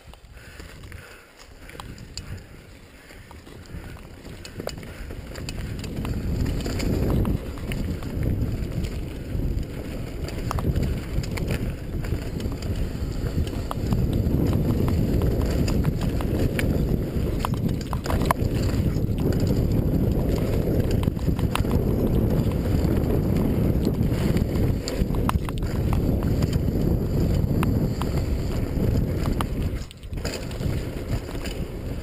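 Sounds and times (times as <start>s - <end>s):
bike clicking and rattling: 0.0s - 32.0s
wind rumbling on microphone: 0.0s - 32.0s.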